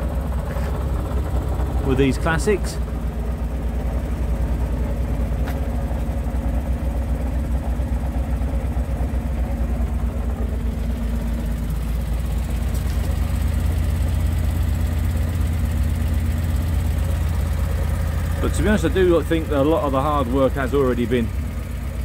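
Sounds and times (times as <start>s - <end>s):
van engine idling: 0.0s - 22.0s.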